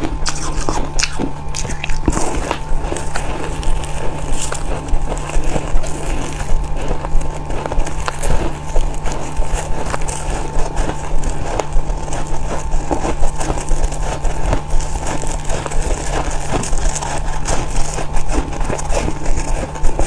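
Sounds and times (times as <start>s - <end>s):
frost being bitten and chewed: 0.0s - 20.0s.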